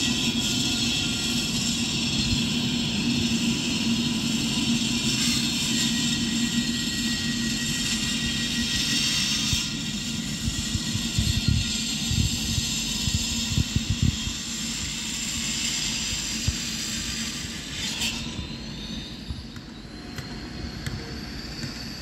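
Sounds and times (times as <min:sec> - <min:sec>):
wheel and rail hiss: 0:00.0 - 0:22.0.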